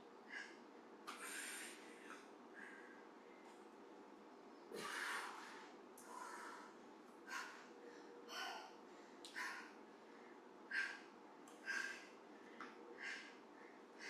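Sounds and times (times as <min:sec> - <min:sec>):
woman breathing hard: 0:00.2 - 0:03.4, 0:04.7 - 0:14.0.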